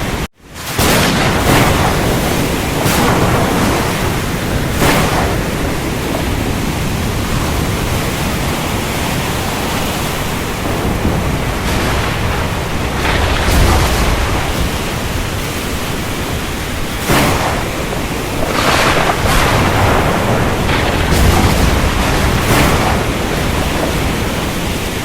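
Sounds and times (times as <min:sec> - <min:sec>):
heavy rain: 0:00.0 - 0:25.0
thunder rumbling: 0:00.0 - 0:25.0.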